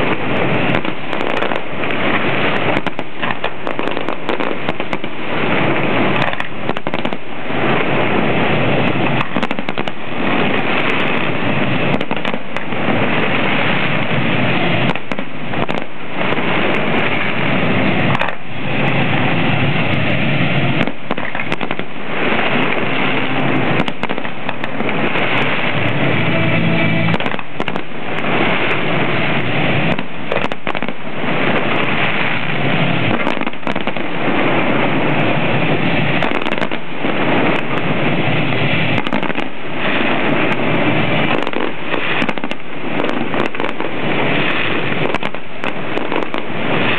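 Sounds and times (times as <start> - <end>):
fireworks bangs: 0.0 - 46.9
fireworks crackling: 0.0 - 46.9.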